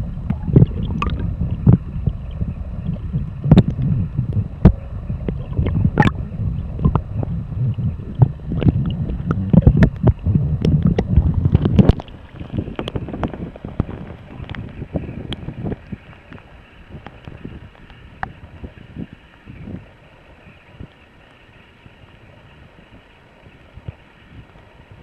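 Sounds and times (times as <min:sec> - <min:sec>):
wind buffeting microphone: 0:00.0 - 0:21.0
water splashing around kayak: 0:00.0 - 0:25.0.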